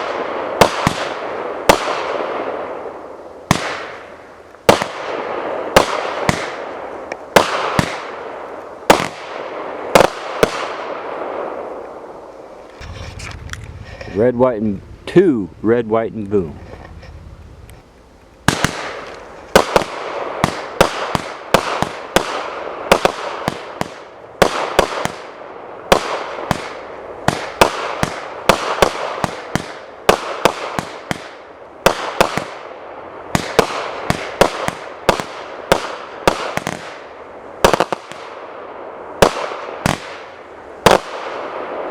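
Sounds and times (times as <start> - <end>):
firework repeater bangs: 0.0 - 15.1, 16.6 - 41.9
hissing and crackling: 0.0 - 41.9.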